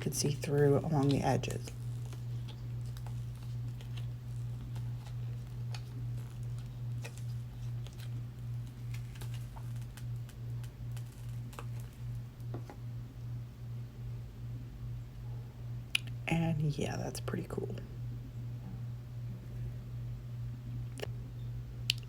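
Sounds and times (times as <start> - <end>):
pulsing low hum: 0.0 - 21.8.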